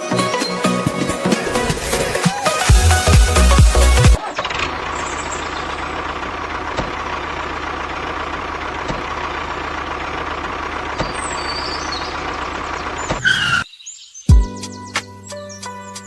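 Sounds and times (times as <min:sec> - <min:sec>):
vehicle engine running: 0:00.2 - 0:13.6.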